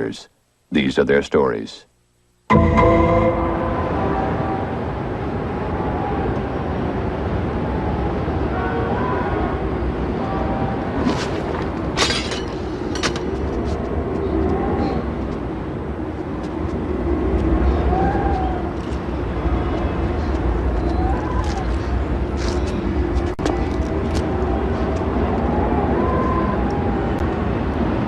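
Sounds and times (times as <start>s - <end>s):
low outdoor rumble: 1.9s - 28.0s.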